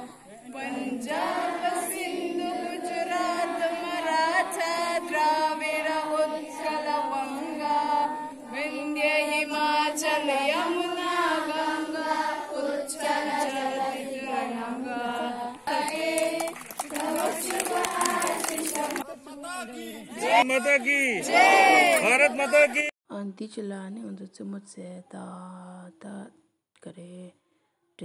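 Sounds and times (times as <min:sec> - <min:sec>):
group singing in unison: 0:00.0 - 0:22.7.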